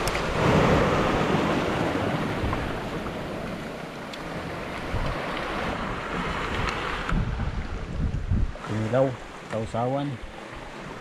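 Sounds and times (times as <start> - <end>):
sea waves washing: 0.0 - 11.0
wind rumbling on microphone: 0.0 - 11.0.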